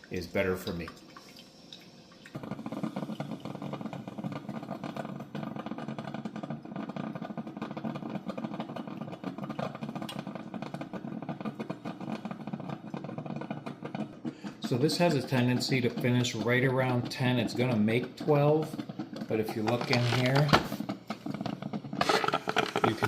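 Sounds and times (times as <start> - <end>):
coffee maker crackling rumble: 0.0 - 23.0.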